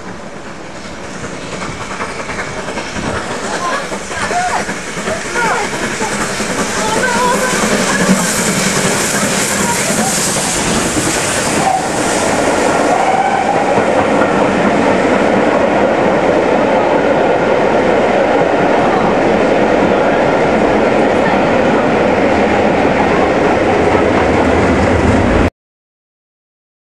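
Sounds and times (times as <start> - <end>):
train wheels rumbling on rails: 0.0 - 25.5.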